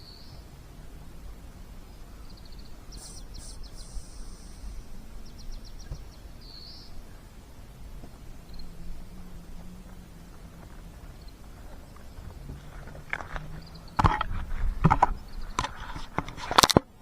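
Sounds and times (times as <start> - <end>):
small birds trilling and chirping: 0.0 - 16.0
low outdoor rumble: 0.0 - 16.2.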